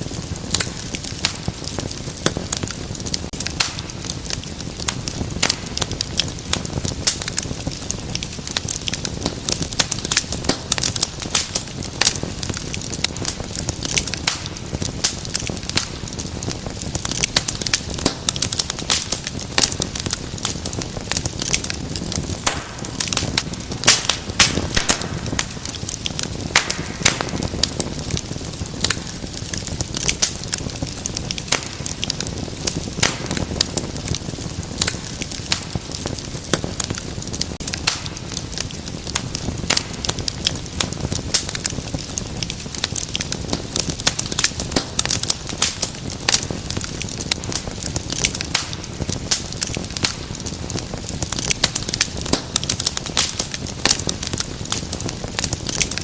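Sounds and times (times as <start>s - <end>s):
fire pops and snaps: 0.0s - 56.0s
soft hiss of flames: 0.0s - 56.0s
wood fire crackling: 0.0s - 56.0s.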